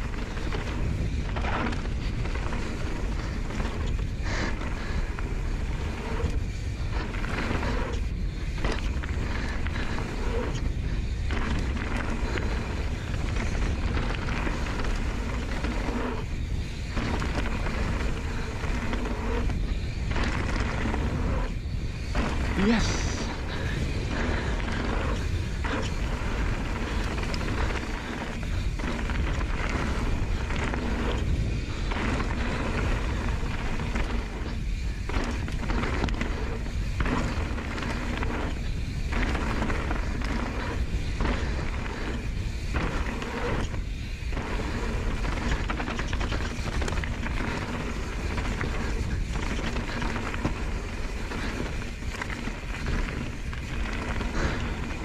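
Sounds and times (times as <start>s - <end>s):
bike clattering: 0.0s - 55.0s
bike tyres crunching over gravel: 0.0s - 55.0s
wind rumble on microphone: 0.0s - 55.0s.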